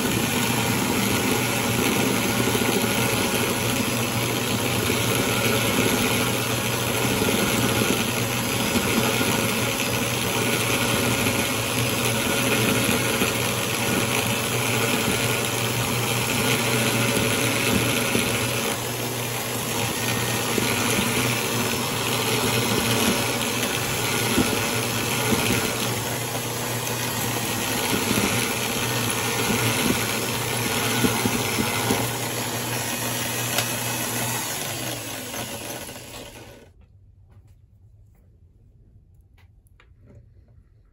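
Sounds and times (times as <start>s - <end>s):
electric drill motor hum: 0.0s - 36.7s.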